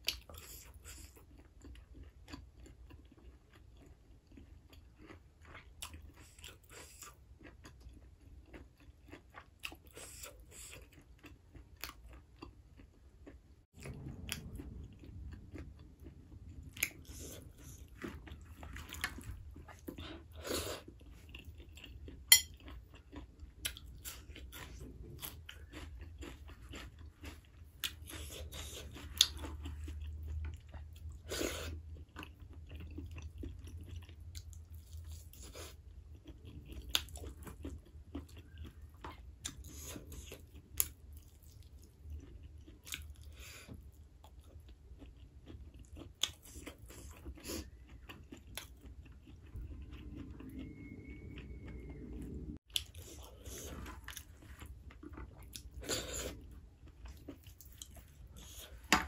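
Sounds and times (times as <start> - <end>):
low steady hum: 0.0 - 59.0
person chewing: 0.0 - 59.0.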